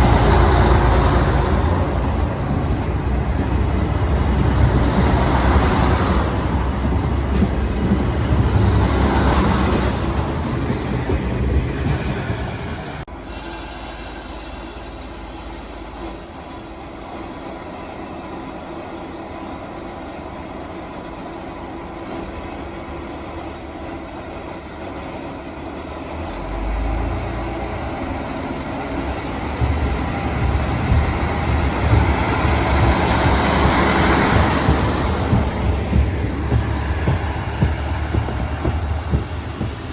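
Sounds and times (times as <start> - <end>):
train engine and wheel rumble: 0.0 - 39.9.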